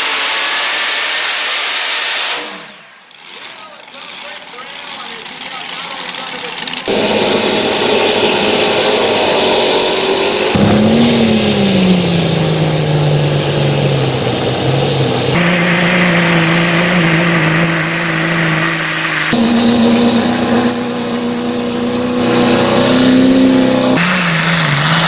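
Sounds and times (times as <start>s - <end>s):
tractor engines running under load: 2.7s - 25.0s.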